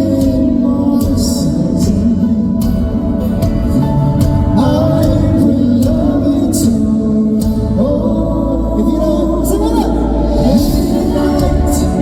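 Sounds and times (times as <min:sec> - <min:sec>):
guitar: 0:00.0 - 0:12.0
live band playing folk-pop: 0:00.0 - 0:12.0
person singing: 0:00.0 - 0:12.0.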